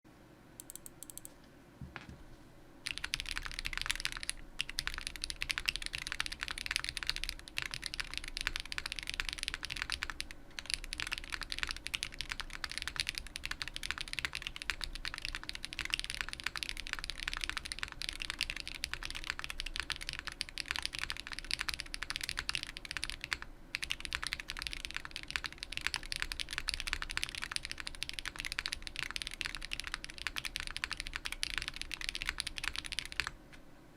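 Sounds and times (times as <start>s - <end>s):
mechanical keyboard typing: 0.6s - 1.3s, 2.8s - 33.4s.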